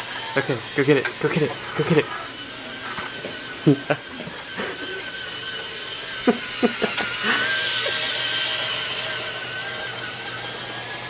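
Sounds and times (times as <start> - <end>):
toy train motor whine: 0.0 - 11.0.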